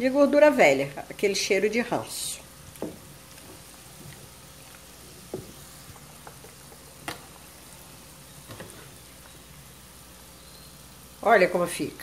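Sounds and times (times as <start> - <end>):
oil sizzling in pot: 0.0 - 12.0.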